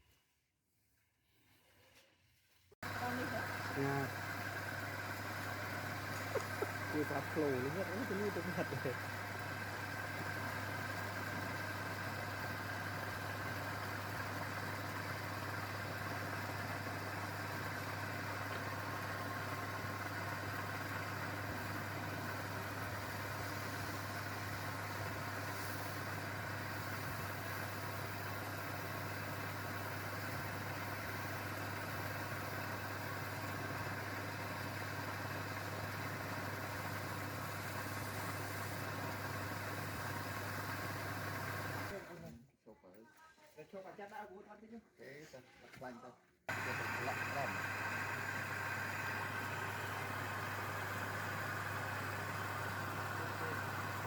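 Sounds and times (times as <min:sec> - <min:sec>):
motor hum: 0:02.8 - 0:42.3, 0:46.5 - 0:54.0.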